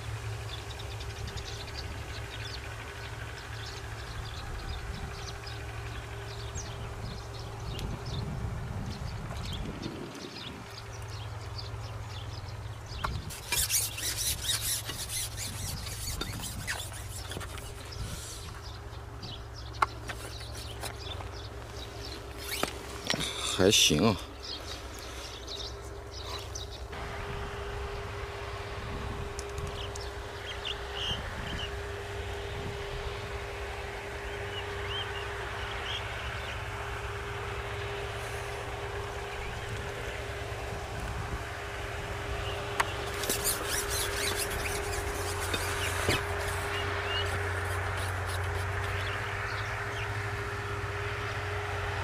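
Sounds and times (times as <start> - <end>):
rustling grass and leaves: 0.0 - 51.6
steady low hum: 0.0 - 52.0.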